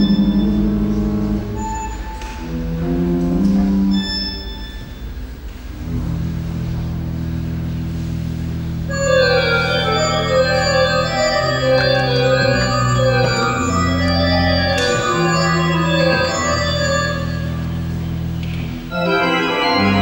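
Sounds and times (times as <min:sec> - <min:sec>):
pipe organ chords: 0:00.0 - 0:20.0.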